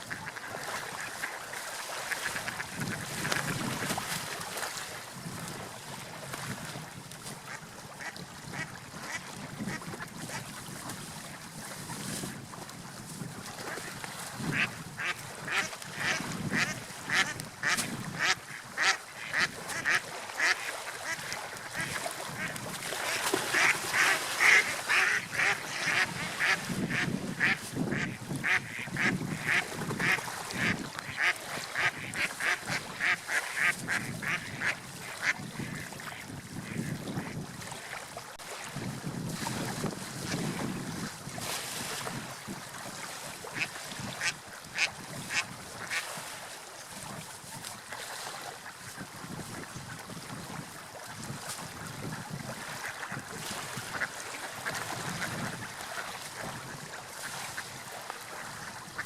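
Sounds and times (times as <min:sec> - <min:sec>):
sea waves rushing: 0:00.0 - 0:48.7.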